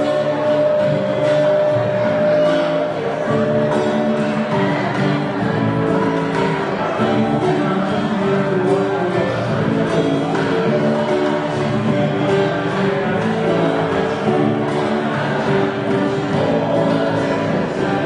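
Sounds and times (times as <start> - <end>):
man singing: 0.0 - 5.8, 6.7 - 18.0
acoustic guitar: 0.0 - 18.0.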